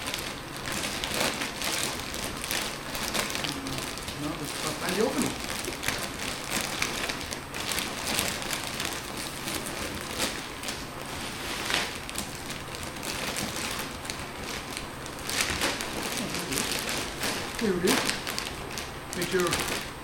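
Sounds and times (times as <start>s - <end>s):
plastic bag rustling and crinkling: 0.0s - 20.0s.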